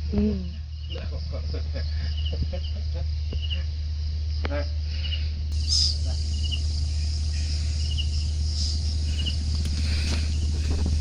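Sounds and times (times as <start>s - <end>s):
steady insect drone: 0.0s - 11.0s
steady low hum: 0.0s - 11.0s
insect short high chirps: 0.1s - 11.0s.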